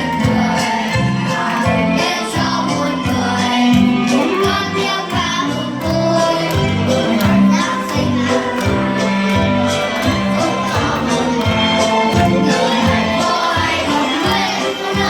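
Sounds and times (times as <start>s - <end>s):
voices singing over a band: 0.0s - 15.0s.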